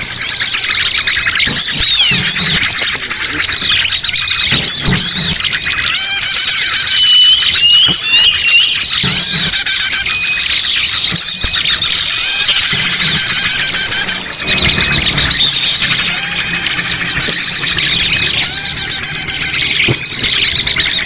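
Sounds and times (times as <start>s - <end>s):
chorus of small birds chirping: 0.0s - 21.0s.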